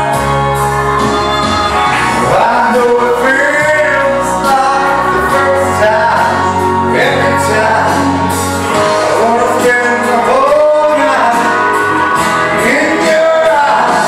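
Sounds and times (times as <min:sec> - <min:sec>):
backing music: 0:00.0 - 0:14.0
man singing into microphone: 0:02.0 - 0:14.0.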